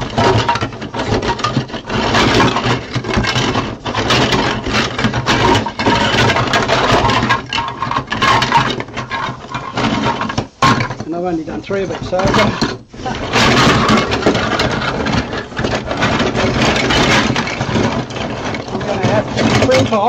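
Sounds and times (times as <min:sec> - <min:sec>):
plastic parts clattering in box: 0:00.0 - 0:20.0.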